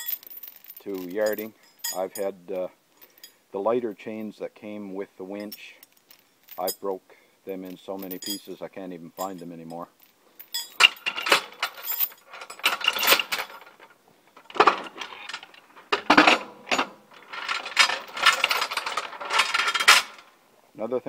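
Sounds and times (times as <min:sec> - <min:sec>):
steel chains clinking and rattling: 0:00.0 - 0:03.4, 0:05.4 - 0:20.4.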